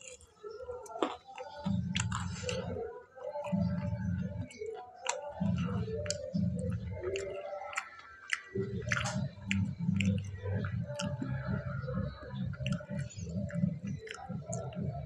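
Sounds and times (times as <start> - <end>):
person chewing: 0.0 - 11.6, 12.4 - 14.9
mouth clicks: 0.0 - 15.0.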